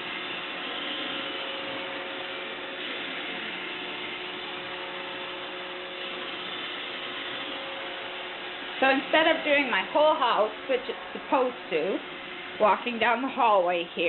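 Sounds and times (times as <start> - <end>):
robot vacuum whirring: 0.0 - 13.1.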